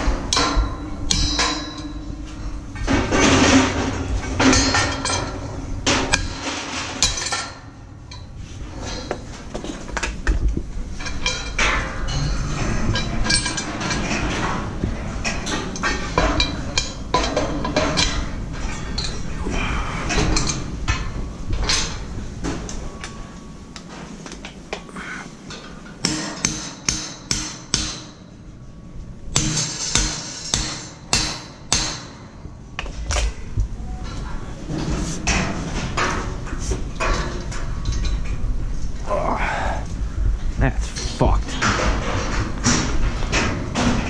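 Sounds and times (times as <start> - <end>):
steel scaffold parts clanking: 0.0 - 24.2, 29.4 - 33.1, 34.0 - 39.0, 40.8 - 44.0.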